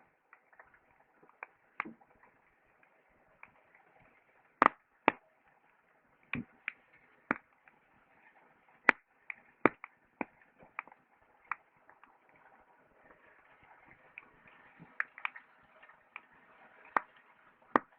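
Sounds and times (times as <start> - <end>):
campfire crackling: 0.0 - 17.9.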